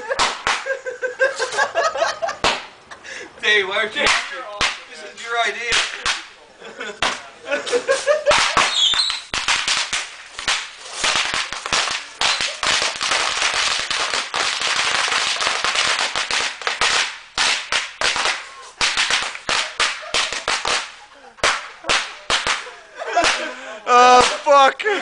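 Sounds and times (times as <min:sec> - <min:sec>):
fireworks crackling pops: 0:00.0 - 0:00.8, 0:01.4 - 0:03.0, 0:03.7 - 0:24.8
steady hiss: 0:00.0 - 0:25.0.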